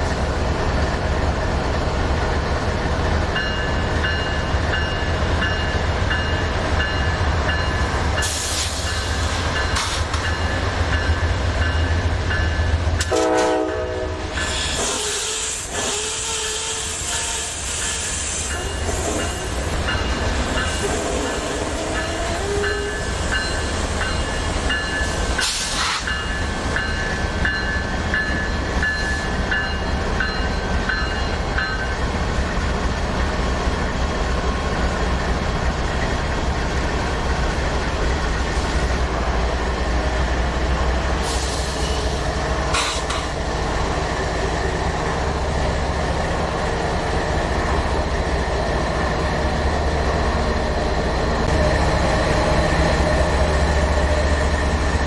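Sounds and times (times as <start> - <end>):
freight train wheel rumble and clatter: 0.0 - 55.0.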